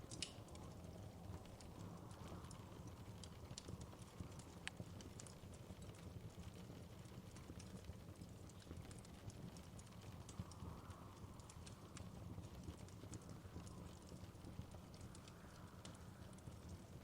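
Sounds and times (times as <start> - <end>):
fire popping: 0.0 - 17.0
low steady rumble: 0.0 - 17.0
wood fire crackling: 0.0 - 17.0.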